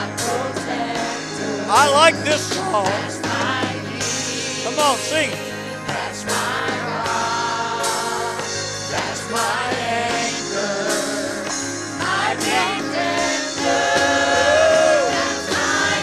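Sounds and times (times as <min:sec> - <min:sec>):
bass: 0:00.0 - 0:16.0
congregation singing gospel: 0:00.0 - 0:16.0
live band playing: 0:00.0 - 0:16.0.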